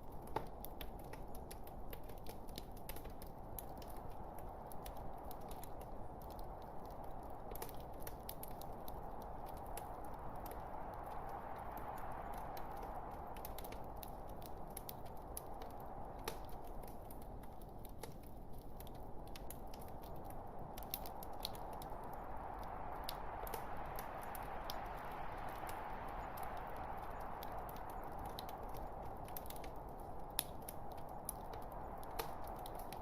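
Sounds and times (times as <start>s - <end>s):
fire burning steadily: 0.0s - 33.0s
wood crackling and popping: 0.0s - 33.0s.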